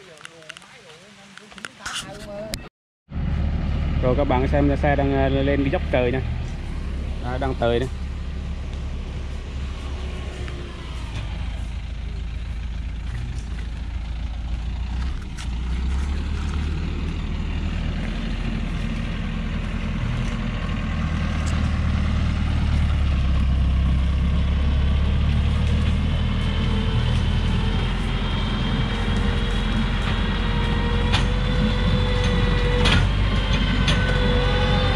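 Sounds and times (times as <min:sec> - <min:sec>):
truck engine labouring: 0:03.1 - 0:34.9.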